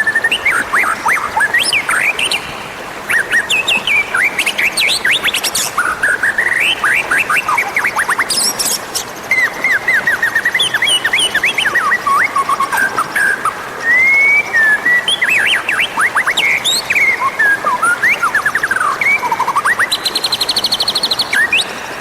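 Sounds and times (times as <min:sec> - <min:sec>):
bird whistling song: 0:00.0 - 0:02.4, 0:03.1 - 0:22.0.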